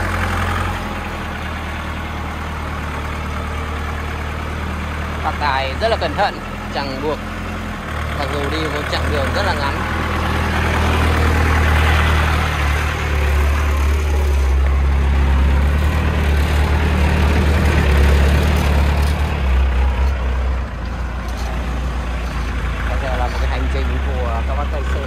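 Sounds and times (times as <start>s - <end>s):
truck engine low drone: 0.0s - 25.0s.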